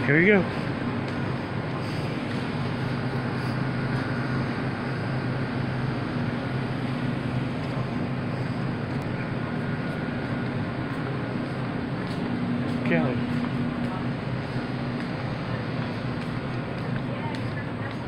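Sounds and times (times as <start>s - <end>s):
faint high whine: 0.0s - 16.7s
refrigeration and ventilation hum: 0.0s - 18.0s.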